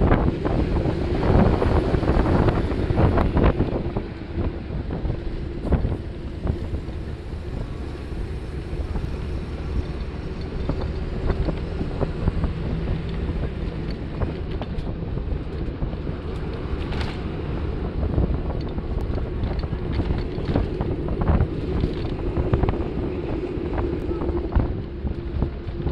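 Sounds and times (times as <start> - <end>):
vehicle engine and tyre rumble: 0.0 - 25.9
wind rushing over microphone: 0.0 - 25.9.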